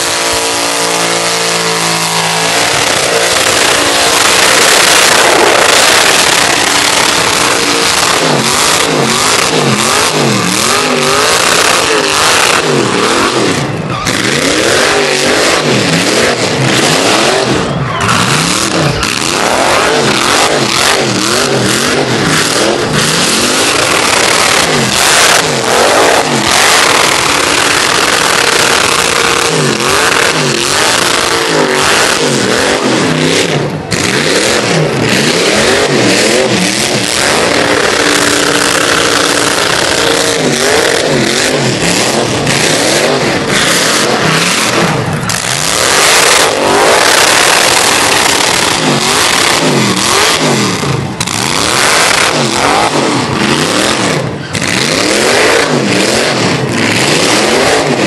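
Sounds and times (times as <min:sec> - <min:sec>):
tyres spinning on pavement: 0:00.0 - 0:57.9
truck engine revving: 0:00.0 - 0:58.0.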